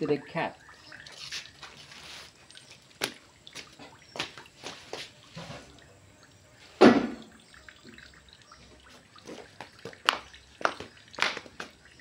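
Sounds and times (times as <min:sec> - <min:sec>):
water dripping into a metal sink: 0:00.3 - 0:01.8, 0:02.4 - 0:04.6, 0:05.7 - 0:12.0.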